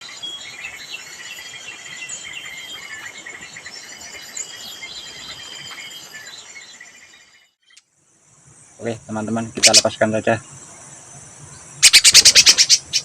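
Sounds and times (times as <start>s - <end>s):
insect buzz: 0.0s - 13.0s
small birds chirping: 0.0s - 13.0s.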